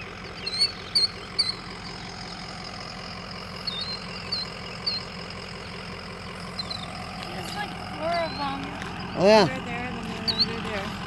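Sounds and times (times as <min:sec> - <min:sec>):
killdeer calling: 0:00.0 - 0:11.0
low engine hum: 0:00.0 - 0:11.0.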